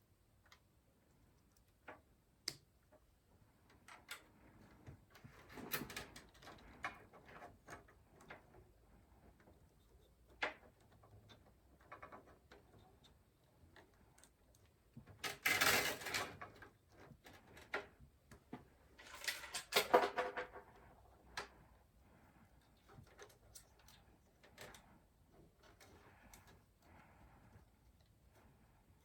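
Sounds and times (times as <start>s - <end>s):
cables rustling and scraping: 3.4s - 29.0s.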